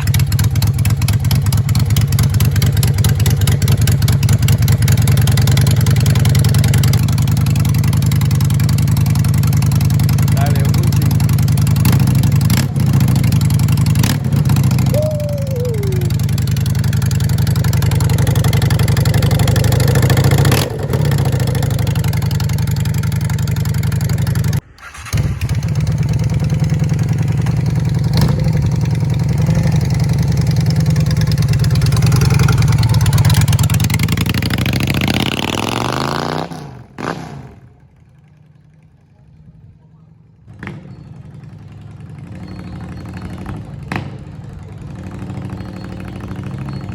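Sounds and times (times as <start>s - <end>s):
motorcycle engine running: 0.0s - 35.9s, 40.6s - 46.9s.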